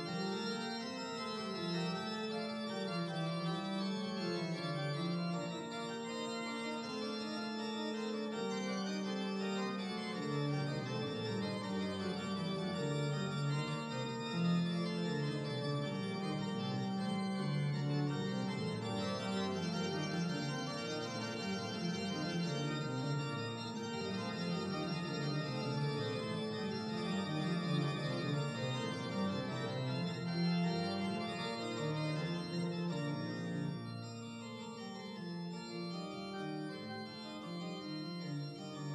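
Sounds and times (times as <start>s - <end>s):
organ playing held chords: 0.0s - 38.9s.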